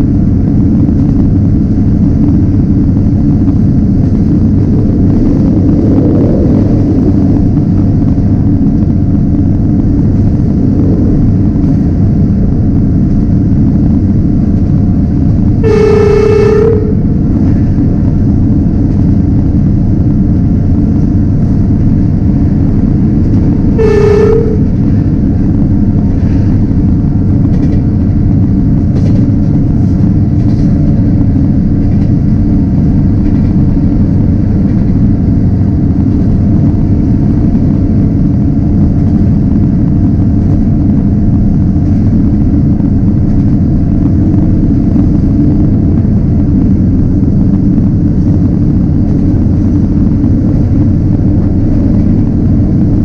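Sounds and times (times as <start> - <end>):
train rumbling along: 0.0 - 53.0.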